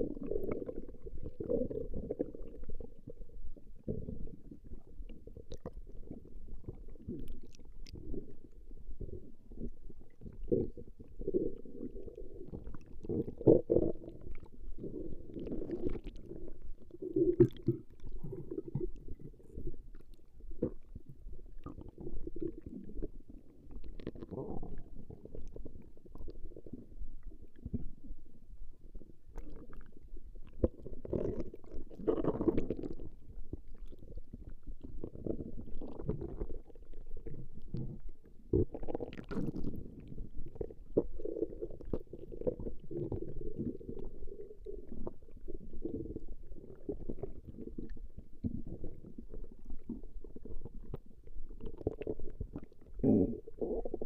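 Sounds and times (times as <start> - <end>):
stomach growling: 0.0 - 54.0.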